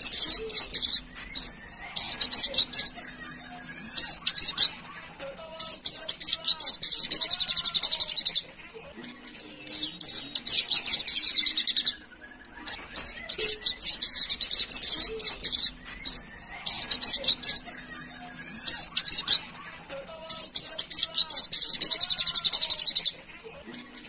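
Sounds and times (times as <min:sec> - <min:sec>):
sunbird singing high-pitched song: 0:00.0 - 0:04.8, 0:05.6 - 0:19.6, 0:20.2 - 0:23.2.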